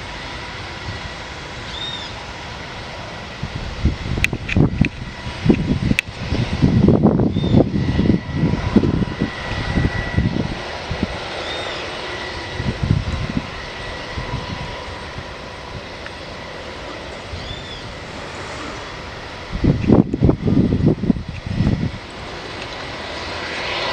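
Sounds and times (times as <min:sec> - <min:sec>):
helicopter turbine and rotor: 0:00.0 - 0:23.9.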